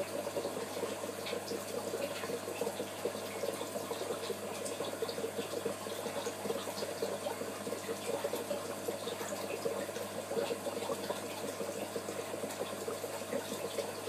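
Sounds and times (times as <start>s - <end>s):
water bubbling and splashing: 0.0s - 14.0s.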